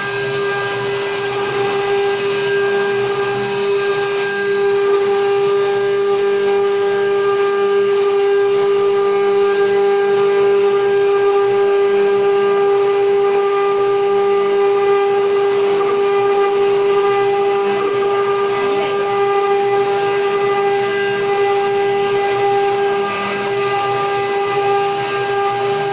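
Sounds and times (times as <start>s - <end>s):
wood router whining: 0.0s - 25.9s.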